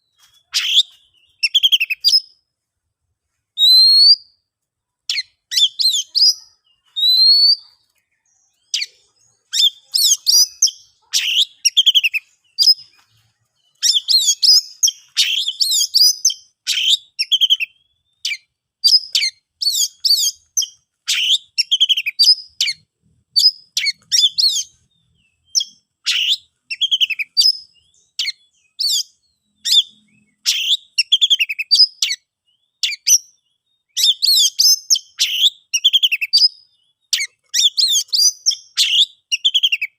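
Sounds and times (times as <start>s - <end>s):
songbird whistling and chirping: 0.0s - 2.4s, 3.5s - 4.4s, 5.1s - 39.9s.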